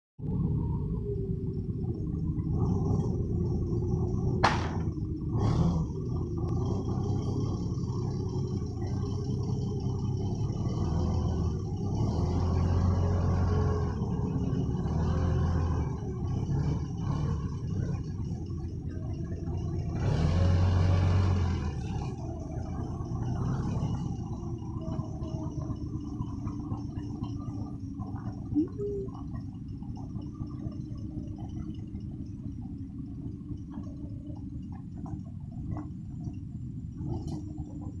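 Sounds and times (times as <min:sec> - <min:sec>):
forklift engine revving: 0:00.2 - 0:36.2.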